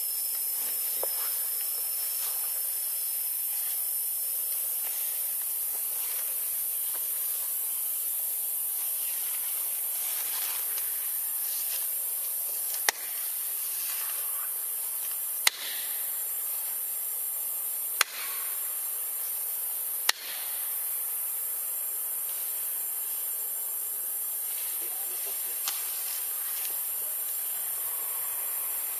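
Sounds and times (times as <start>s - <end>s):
high-pitched hiss: 0.0s - 28.9s.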